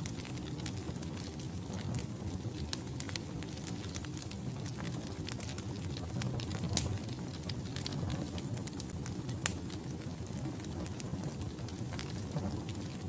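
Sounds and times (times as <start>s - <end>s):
logs burning and crackling: 0.0s - 13.0s.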